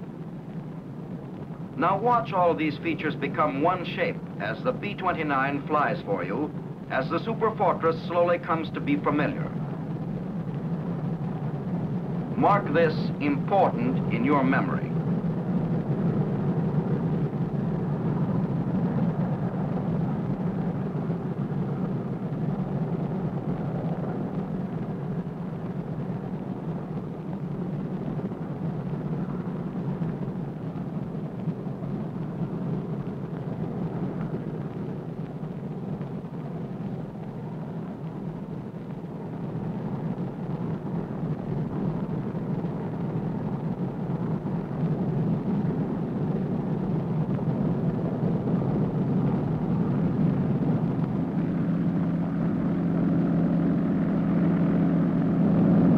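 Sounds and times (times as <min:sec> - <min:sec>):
propeller aircraft engines droning: 0:00.0 - 0:55.9.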